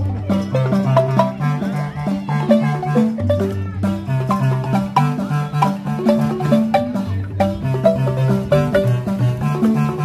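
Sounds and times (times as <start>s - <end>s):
low bass notes: 0.0s - 10.0s
marimbas playing: 0.0s - 10.0s.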